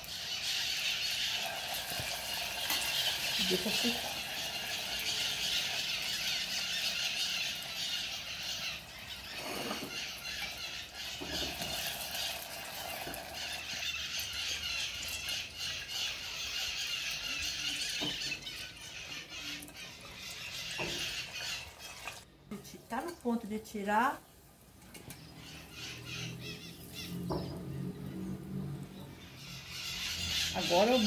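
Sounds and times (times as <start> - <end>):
fritters deep-frying in oil: 0.0 - 31.0.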